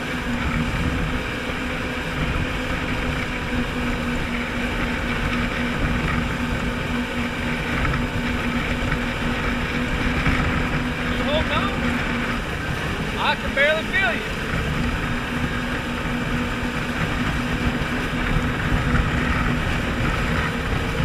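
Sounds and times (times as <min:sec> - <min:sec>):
jet ski engine drone: 0:00.0 - 0:21.0
rushing water: 0:00.0 - 0:21.0
wind: 0:00.0 - 0:21.0.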